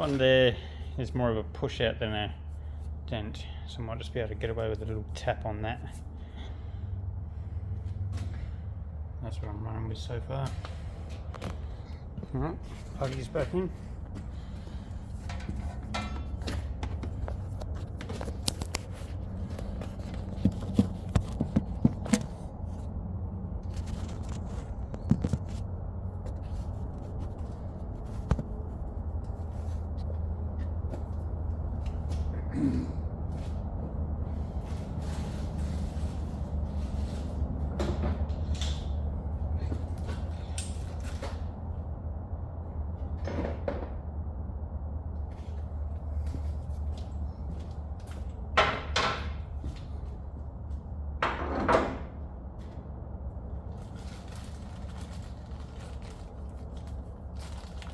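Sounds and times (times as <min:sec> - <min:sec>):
low steady hum: 0:00.0 - 0:57.9.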